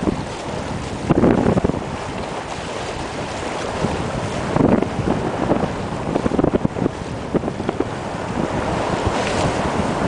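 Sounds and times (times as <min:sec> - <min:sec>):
water rushing along boat hull: 0:00.0 - 0:10.0
wind buffeting microphone: 0:00.0 - 0:10.0.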